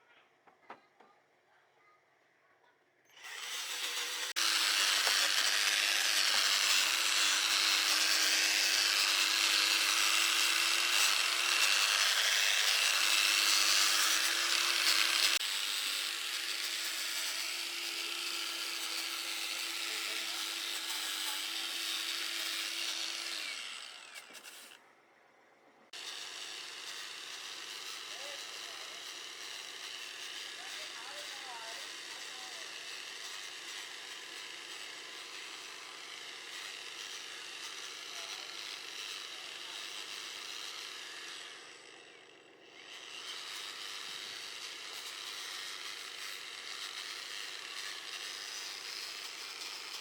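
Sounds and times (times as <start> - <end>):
power tool rasping: 3.1 - 24.8, 25.9 - 50.0.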